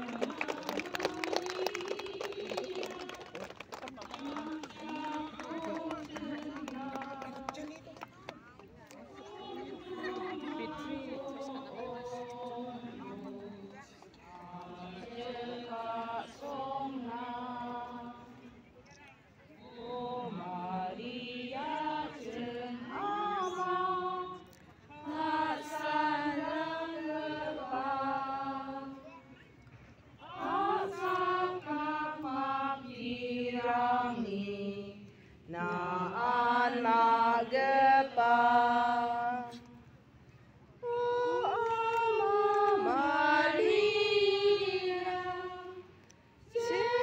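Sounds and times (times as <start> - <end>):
voices singing a chant: 0.0 - 8.0, 8.9 - 18.6, 19.5 - 29.1, 30.2 - 39.9, 40.8 - 47.0.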